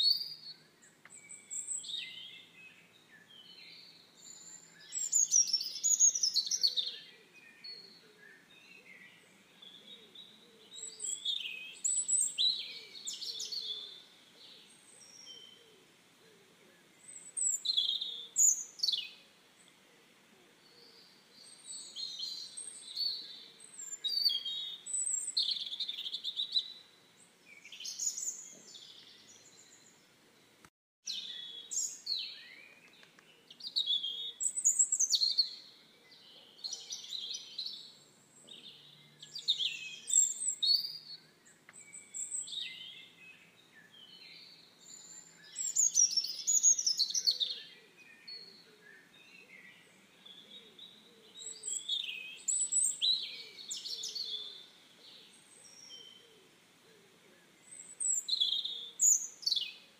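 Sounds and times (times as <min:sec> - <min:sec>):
faint steady background noise: 0:00.0 - 0:59.9
small birds chirping: 0:00.0 - 0:59.9.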